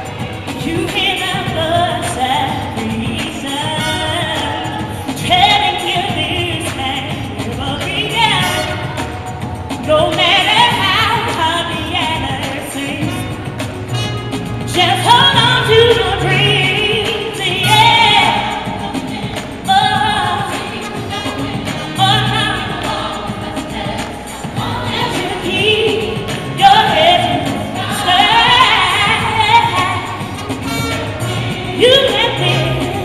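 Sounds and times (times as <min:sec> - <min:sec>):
gospel choir singing: 0:00.0 - 0:33.0
instrumental accompaniment with bass: 0:00.0 - 0:33.0.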